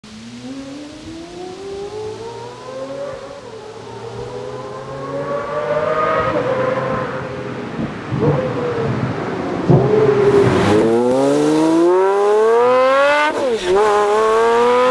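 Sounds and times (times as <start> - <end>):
exhaust crackle: 0.0 - 14.9
sports car engine accelerating: 0.1 - 14.9.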